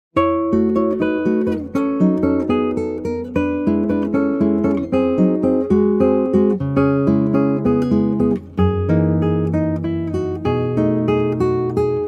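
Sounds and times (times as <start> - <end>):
acoustic guitar plucking: 0.2 - 12.0.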